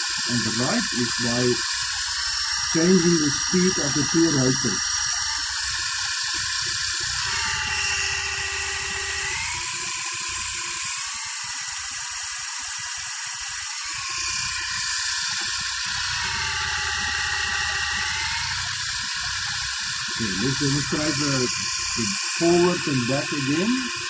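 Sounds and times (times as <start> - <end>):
toy helicopter rotors whirring: 0.0 - 24.0.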